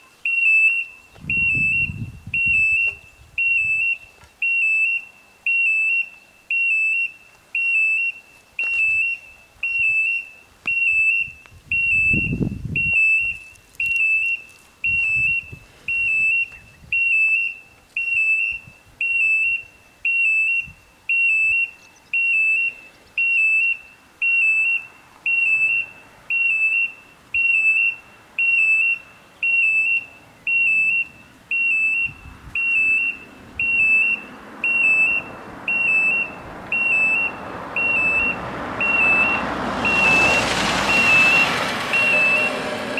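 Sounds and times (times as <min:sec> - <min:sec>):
level crossing electronic beeps: 0:00.3 - 0:42.6.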